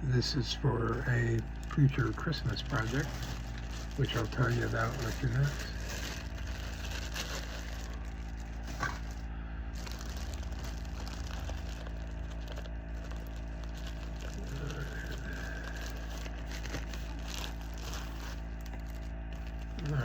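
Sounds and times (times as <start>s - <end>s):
steady low hum: 0.0s - 20.0s
packaging rustling and crinkling: 0.6s - 20.0s.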